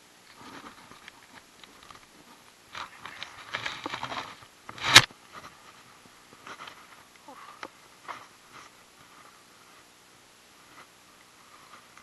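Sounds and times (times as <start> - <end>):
scraping and rustling handling noise: 0.2 - 12.0.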